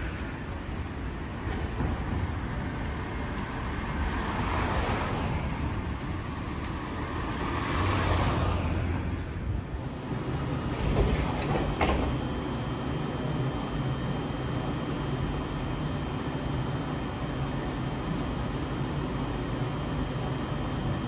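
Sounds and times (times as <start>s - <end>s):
tram humming: 0.0s - 21.0s
vehicles passing on street: 0.0s - 21.0s.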